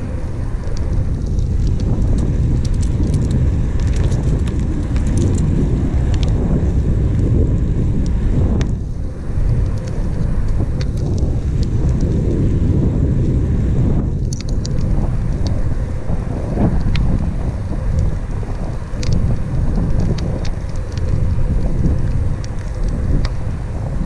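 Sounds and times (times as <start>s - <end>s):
small ticks: 0.0s - 12.4s, 14.0s - 24.0s
tyre noise on asphalt: 0.0s - 24.0s
wind buffeting microphone: 0.0s - 24.0s.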